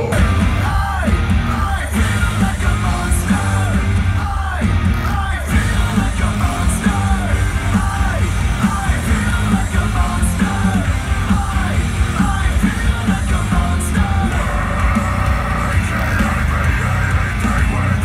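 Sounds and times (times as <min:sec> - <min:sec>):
hard rock music: 0:00.0 - 0:18.0
person yelling and singing: 0:00.0 - 0:18.0.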